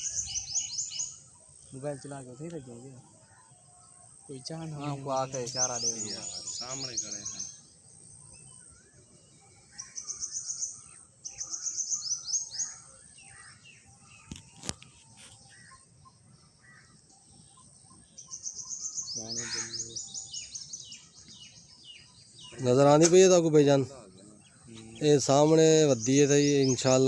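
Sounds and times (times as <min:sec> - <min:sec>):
high bird chirps: 0:00.0 - 0:27.0.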